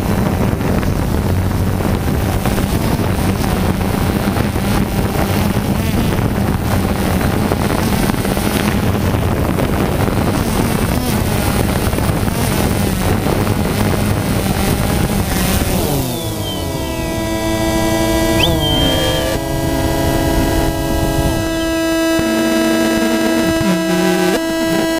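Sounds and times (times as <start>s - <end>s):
drone motors and propellers: 0.0s - 24.9s.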